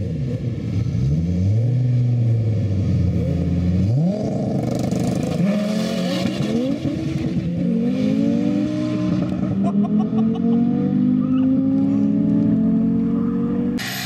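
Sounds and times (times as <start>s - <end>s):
car engines revving: 0.0s - 14.0s
cars accelerating away: 0.0s - 14.0s.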